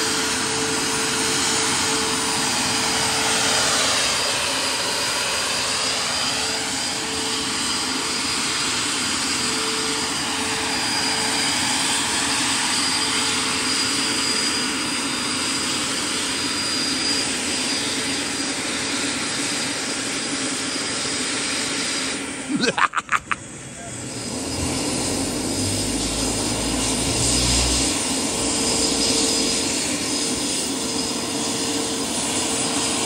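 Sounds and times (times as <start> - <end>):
model helicopter high-pitched whine: 0.0 - 33.0.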